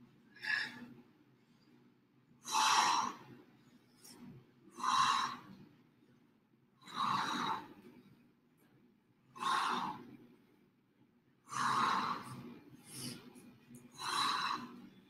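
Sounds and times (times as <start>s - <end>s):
quiet breathing: 0.0s - 8.7s, 9.3s - 10.8s, 11.4s - 15.0s.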